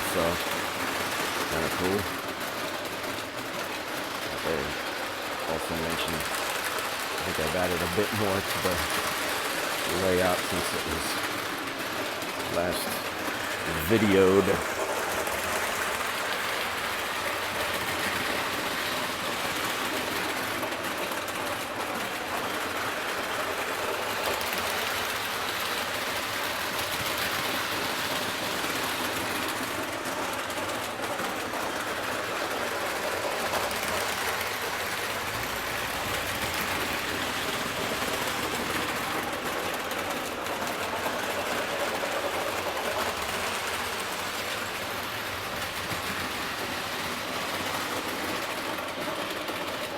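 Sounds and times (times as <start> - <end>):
wheels clattering on rails: 0.0 - 49.9.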